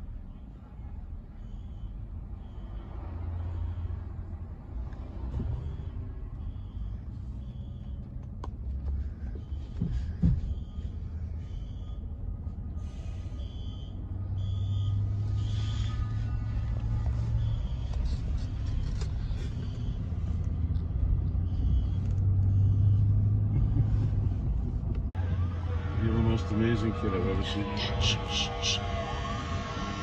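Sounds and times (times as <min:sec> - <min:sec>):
vehicle engine rumble: 0:00.0 - 0:30.0.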